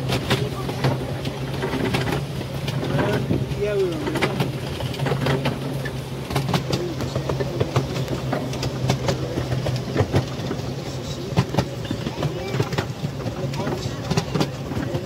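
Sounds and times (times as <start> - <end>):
train wheels humming on track: 0.0 - 15.0
wheels clicking over rails: 0.0 - 15.0.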